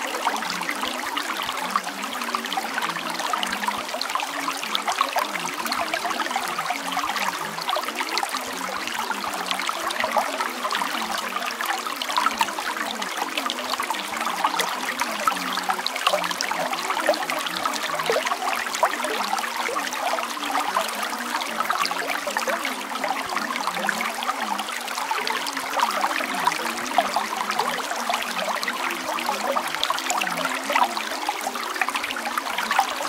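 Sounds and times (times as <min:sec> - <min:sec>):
running water trickling: 0:00.0 - 0:33.0.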